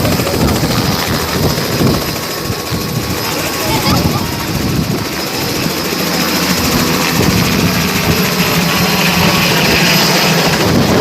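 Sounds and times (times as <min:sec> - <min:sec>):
helicopter engine noise: 0:00.0 - 0:11.0
helicopter rotor beating: 0:00.0 - 0:11.0.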